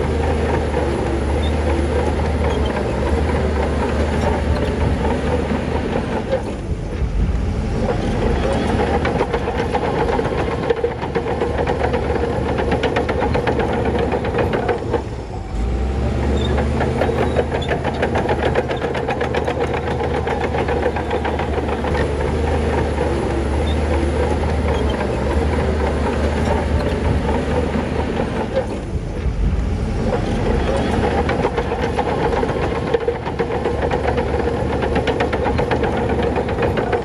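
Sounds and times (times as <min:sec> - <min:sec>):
bulldozer diesel engine: 0:00.0 - 0:37.0
steel tracks clattering: 0:00.0 - 0:37.0.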